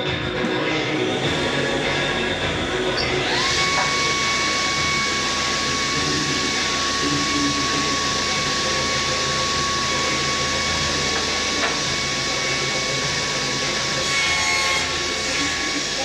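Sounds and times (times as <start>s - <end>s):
circular saw cutting wood: 0.0s - 16.0s.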